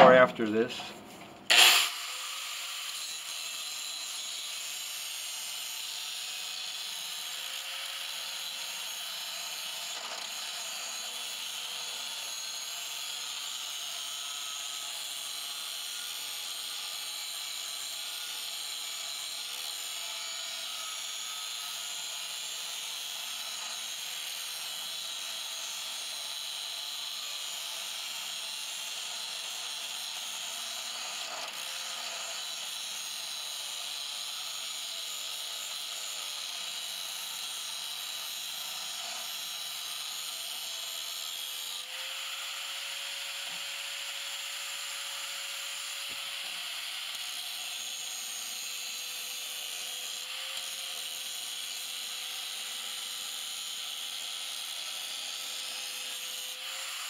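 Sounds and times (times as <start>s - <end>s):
angle grinder cutting steel: 0.0s - 57.0s.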